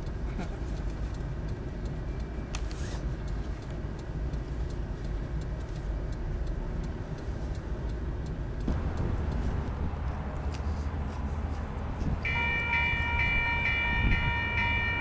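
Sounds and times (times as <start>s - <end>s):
engine and road rumble: 0.0s - 15.0s
turn signal ticking: 0.0s - 15.0s.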